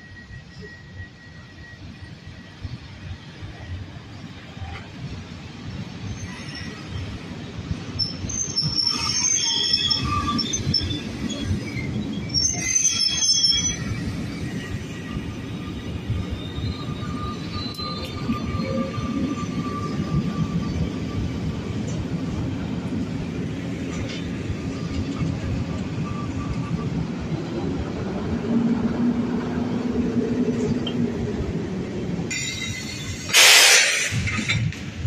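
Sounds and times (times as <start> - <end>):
electric locomotive humming: 0.0 - 35.0
electric train rumbling past: 0.0 - 35.0.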